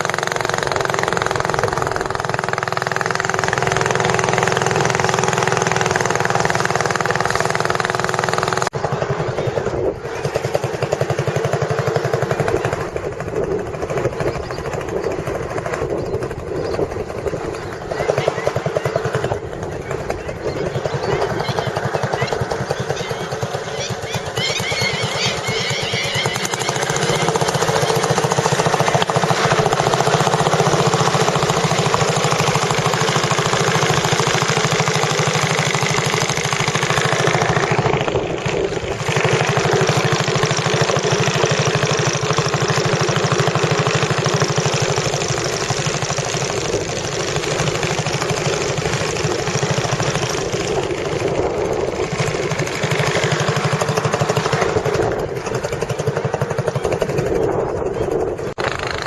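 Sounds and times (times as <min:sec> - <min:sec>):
engine running loudly: 0:00.0 - 0:59.0.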